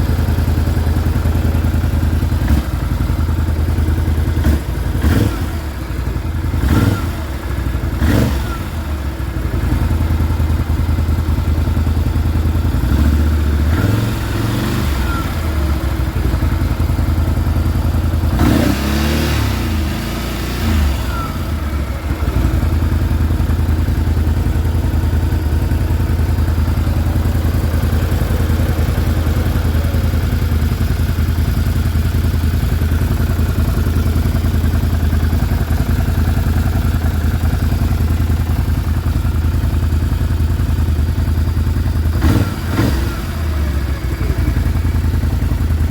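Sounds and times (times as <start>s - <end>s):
engine idling with piston slap: 0.0s - 45.9s.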